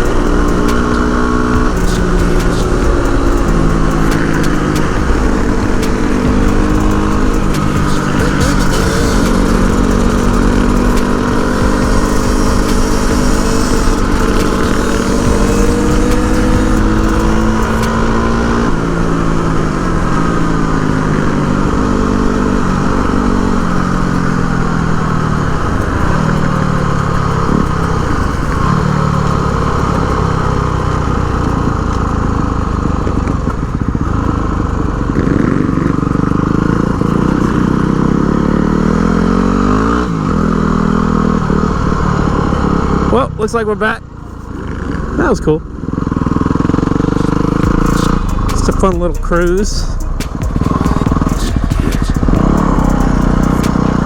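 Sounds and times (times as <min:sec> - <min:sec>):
wind hiss: 0:00.0 - 0:43.2, 0:43.8 - 0:54.0
motorcycle engine running: 0:00.0 - 0:54.0.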